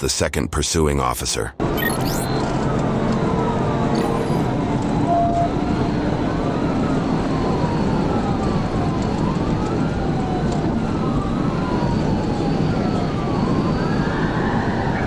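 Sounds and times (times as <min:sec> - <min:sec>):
police siren wailing: 0:01.9 - 0:15.0.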